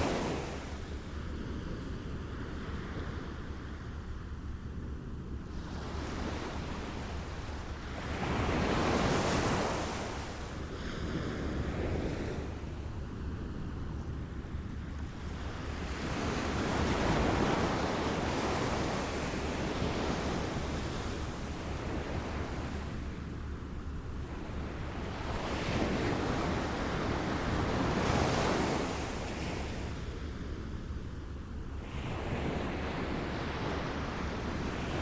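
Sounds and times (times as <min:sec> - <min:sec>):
waves lapping on a shore: 0:00.0 - 0:04.7, 0:05.4 - 0:35.0.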